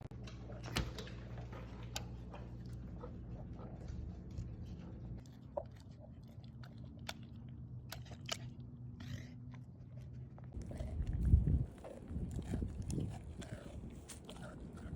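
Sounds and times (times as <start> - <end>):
steady low hum: 0.0 - 14.9
puppy chewing meat: 1.2 - 14.9.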